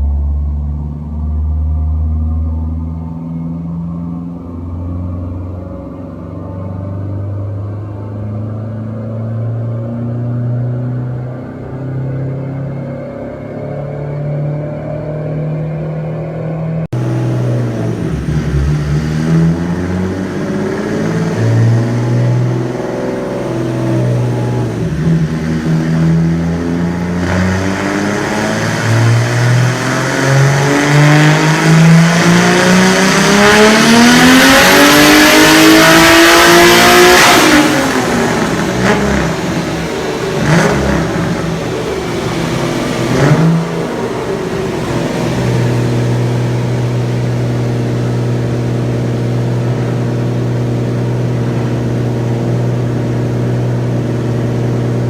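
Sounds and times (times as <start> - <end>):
turbocharged car engine revving: 0.0 - 55.0.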